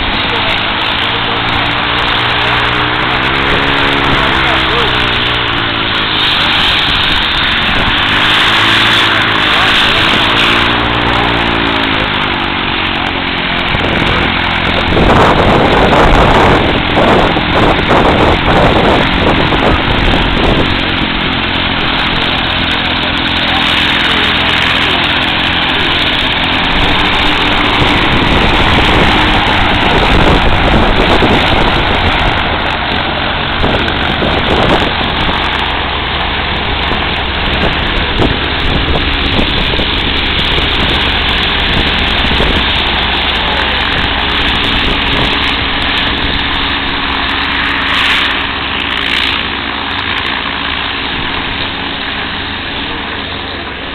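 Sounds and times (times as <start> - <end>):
seaplane engines and propellers: 0.0 - 53.9.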